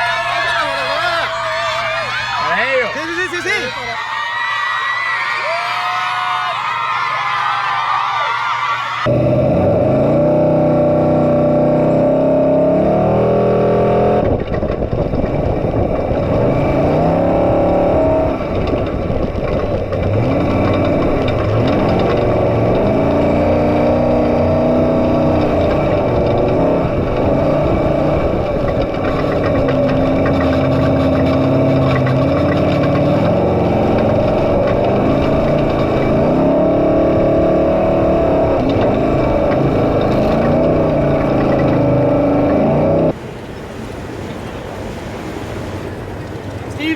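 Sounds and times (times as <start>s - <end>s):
truck engine revving: 0.0s - 4.0s, 9.0s - 43.2s.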